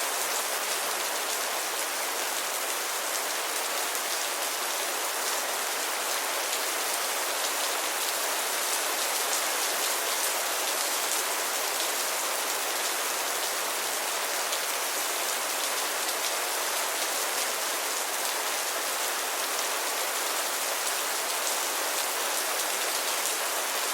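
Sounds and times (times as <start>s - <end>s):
steady rain: 0.0s - 23.9s.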